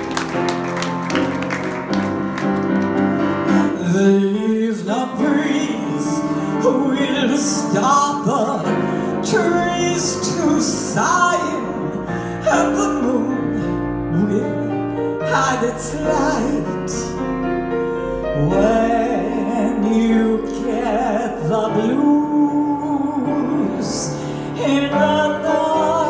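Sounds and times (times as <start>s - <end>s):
grand piano playing: 0.0s - 26.0s
woman singing: 3.8s - 17.2s, 18.4s - 26.0s.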